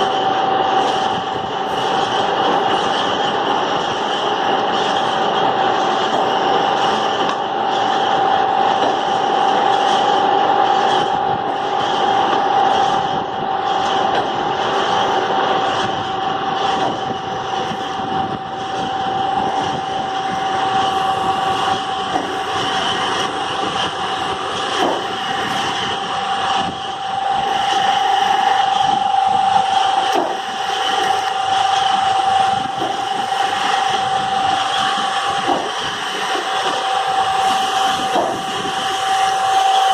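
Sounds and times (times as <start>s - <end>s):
constant machine whine: 0.0s - 39.9s
lathe machining metal: 0.0s - 39.9s.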